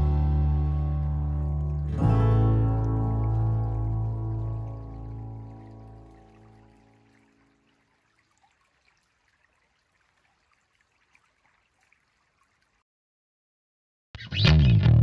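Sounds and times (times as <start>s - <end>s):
faint stream trickling: 0.0s - 12.8s.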